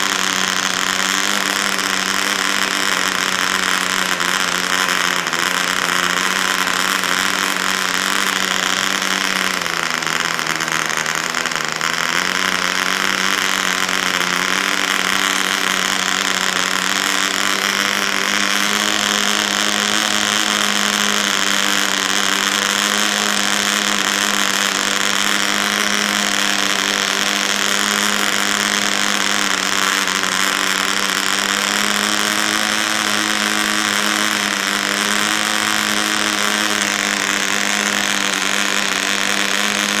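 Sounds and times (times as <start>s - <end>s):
model engine buzzing: 0.0s - 40.0s.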